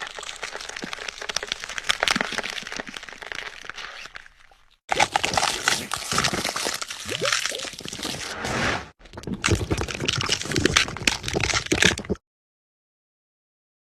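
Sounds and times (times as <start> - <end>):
wet squelching and bone crunching: 0.0 - 12.2.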